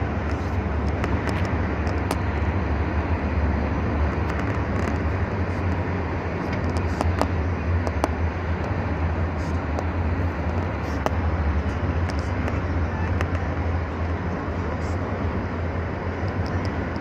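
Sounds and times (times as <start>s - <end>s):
car cabin rumble at speed: 0.0s - 17.0s.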